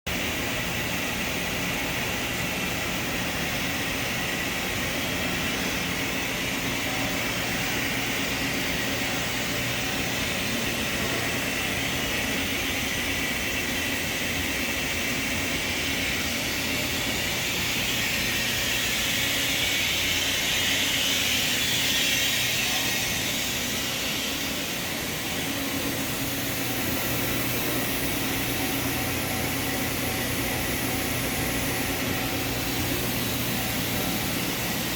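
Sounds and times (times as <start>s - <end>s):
industrial machinery hum and hiss: 0.1s - 34.9s.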